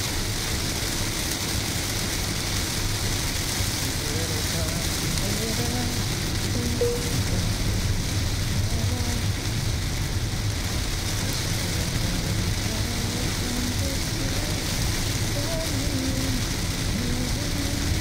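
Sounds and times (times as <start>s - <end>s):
car driving on wet road: 0.0s - 18.0s
heavy rain on car windshield: 0.0s - 18.0s.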